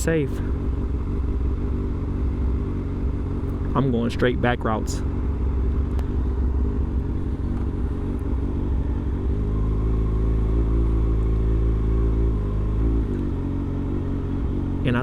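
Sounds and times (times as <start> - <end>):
motorcycle engine cruising: 0.0 - 15.0
wind and road rumble: 0.0 - 15.0.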